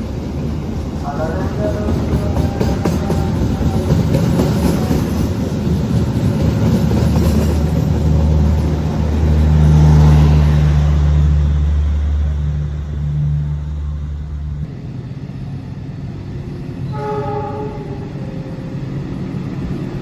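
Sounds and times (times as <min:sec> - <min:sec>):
train low drone: 0:00.0 - 0:20.0
train rumbling on rails: 0:00.0 - 0:20.0.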